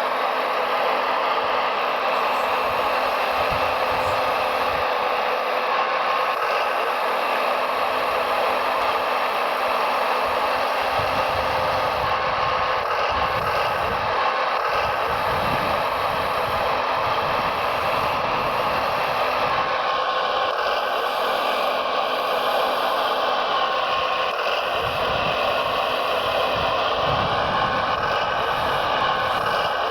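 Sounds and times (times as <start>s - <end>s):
electric motors and gears whirring: 0.0s - 29.9s.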